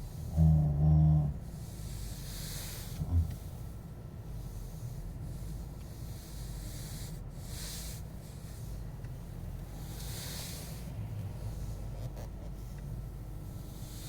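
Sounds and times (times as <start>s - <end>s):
steering low hum: 0.0s - 14.0s.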